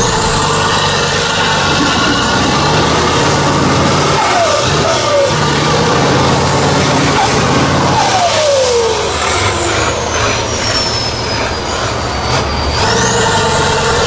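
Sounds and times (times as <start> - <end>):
high whine: 0.0 - 14.0
truck engine revving: 0.0 - 14.0.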